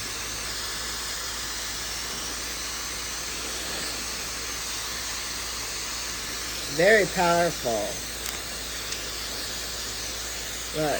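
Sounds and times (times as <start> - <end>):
hair dryer blowing: 0.0 - 10.9.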